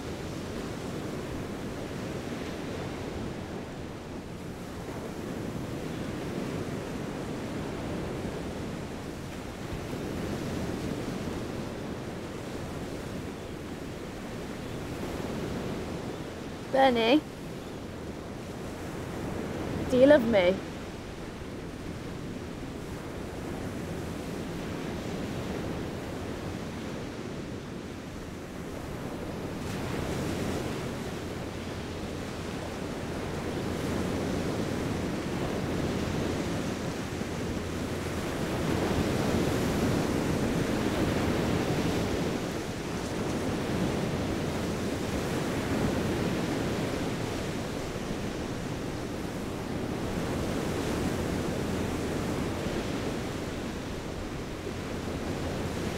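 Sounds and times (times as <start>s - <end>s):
sea surf washing onto beach: 0.0s - 55.9s.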